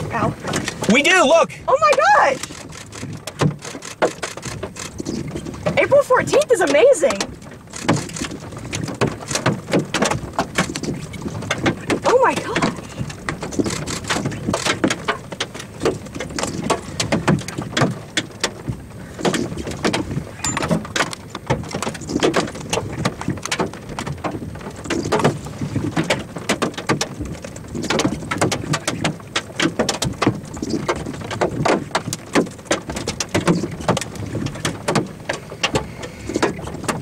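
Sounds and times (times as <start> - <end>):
low wind rumble: 0.0 - 37.0
rain tapping on vehicle: 0.0 - 37.0.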